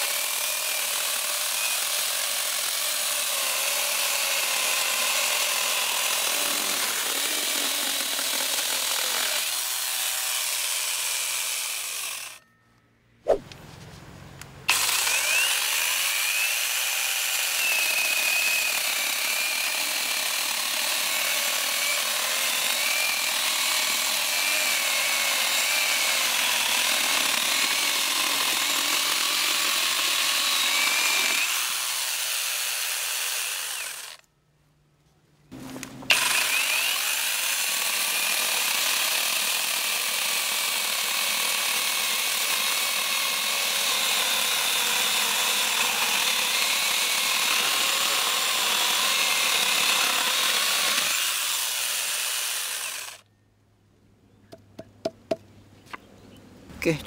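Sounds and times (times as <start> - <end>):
chainsaw cutting log: 0.0 - 12.4, 14.7 - 34.2, 35.5 - 53.2.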